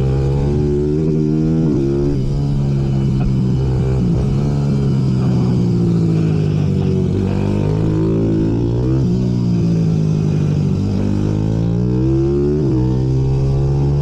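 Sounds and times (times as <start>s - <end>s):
minibike engines revving: 0.0s - 14.0s.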